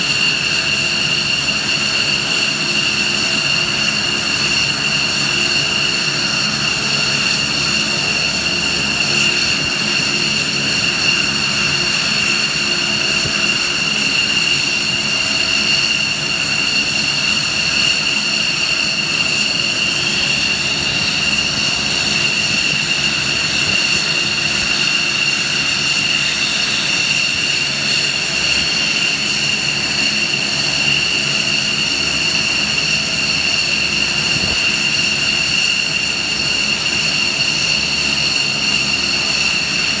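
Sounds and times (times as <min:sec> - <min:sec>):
aircraft turbine engines idling: 0:00.0 - 0:40.0.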